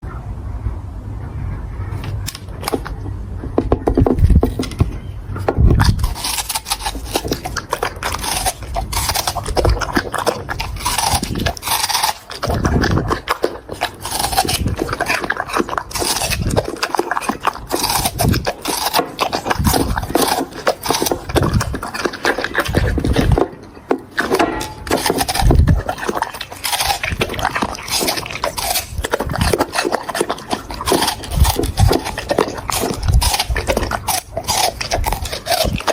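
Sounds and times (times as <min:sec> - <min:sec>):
dog chewing and crunching: 0:02.0 - 0:35.9.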